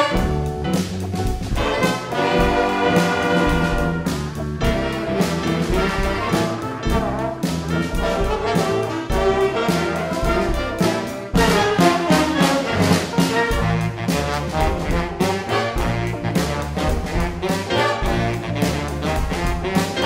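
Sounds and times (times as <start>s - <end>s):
big band playing funk jazz: 0.0s - 20.0s.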